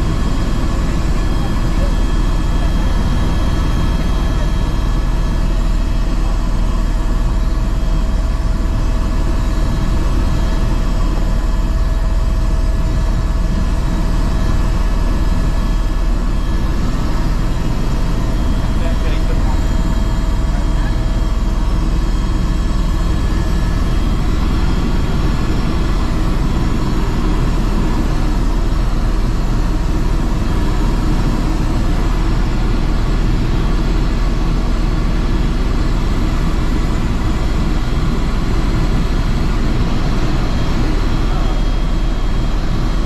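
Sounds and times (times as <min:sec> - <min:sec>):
helicopter rotor and engine rumble: 0:00.0 - 0:43.0.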